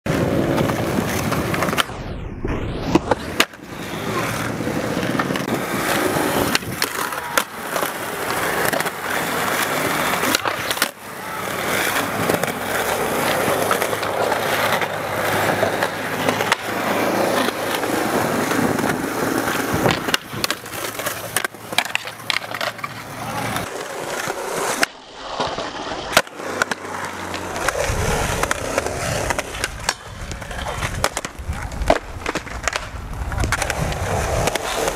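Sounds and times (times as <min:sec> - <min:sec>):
skateboard wheels rolling on concrete: 0:00.0 - 0:34.9
skateboard clacks: 0:00.1 - 0:01.9, 0:02.9 - 0:34.9.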